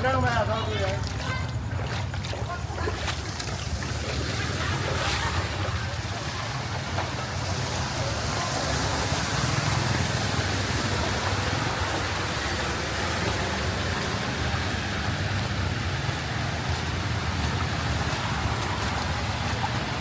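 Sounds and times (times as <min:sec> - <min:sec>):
floodwater washing and swishing: 0:00.0 - 0:20.0
low engine rumble: 0:00.0 - 0:20.0.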